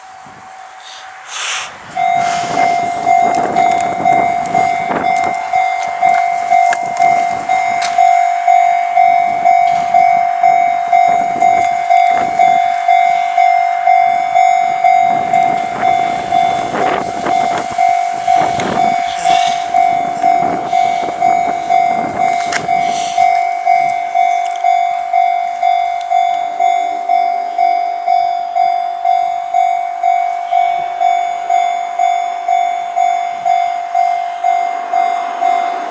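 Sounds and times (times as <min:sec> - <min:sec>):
level crossing warning bell: 0:00.0 - 0:35.9.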